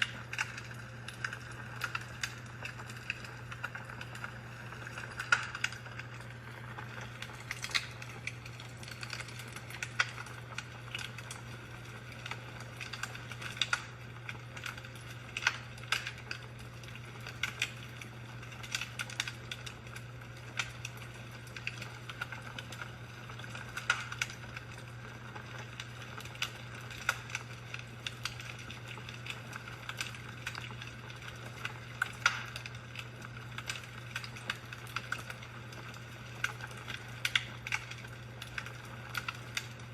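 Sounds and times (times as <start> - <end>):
fireplace crackling and popping: 0.0 - 39.9
low steady hum: 0.0 - 39.9.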